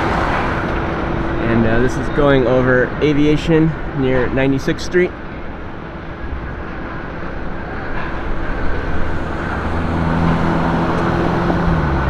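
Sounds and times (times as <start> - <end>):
low engine hum: 0.0 - 12.0
road traffic rush: 0.0 - 12.0.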